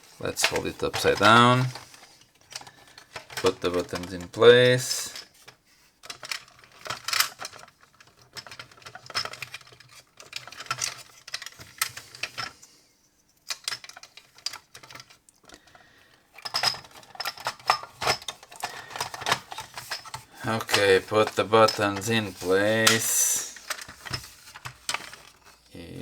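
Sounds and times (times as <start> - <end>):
plastic toy parts clicking: 0.4 - 12.5, 13.5 - 15.7, 16.4 - 25.5.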